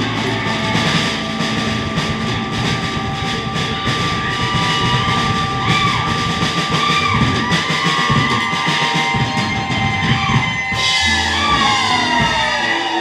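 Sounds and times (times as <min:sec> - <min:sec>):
drum kit: 0:00.0 - 0:13.0
electric guitars: 0:00.0 - 0:13.0.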